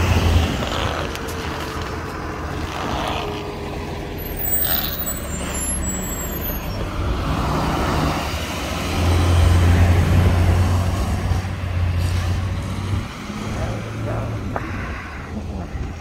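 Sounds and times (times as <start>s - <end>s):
bus engine driving off: 0.0s - 16.0s.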